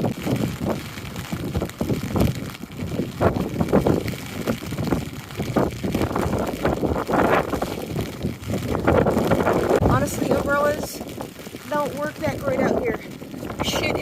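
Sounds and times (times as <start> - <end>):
wind buffeting the microphone: 0.0 - 14.0.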